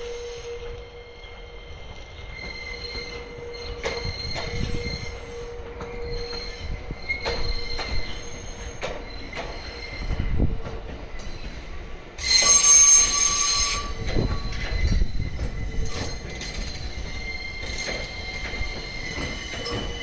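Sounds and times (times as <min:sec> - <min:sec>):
high wheel squeal: 0:00.0 - 0:10.4, 0:12.2 - 0:20.0
train rumbling past: 0:00.0 - 0:20.0.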